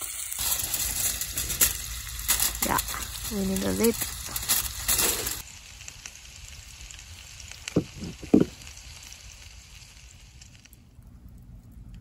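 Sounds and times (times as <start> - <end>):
aluminium foil crinkling: 0.0 - 10.8
burgers sizzling on grill: 0.0 - 12.0.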